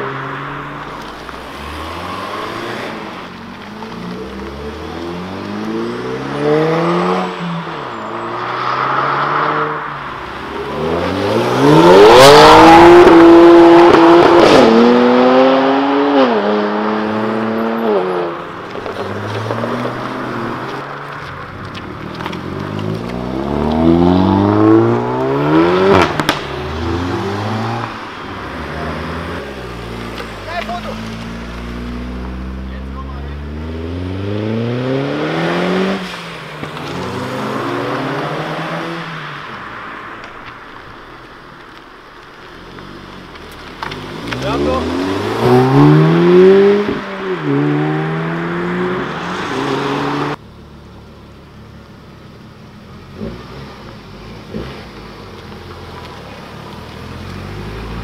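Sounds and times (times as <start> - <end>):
cars accelerating hard: 0.0 - 40.8, 42.5 - 50.4.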